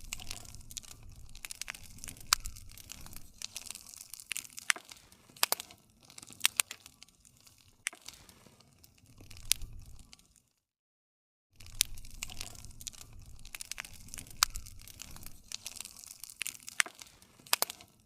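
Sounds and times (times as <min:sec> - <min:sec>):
wood fire crackling: 0:00.0 - 0:10.6, 0:11.6 - 0:18.0.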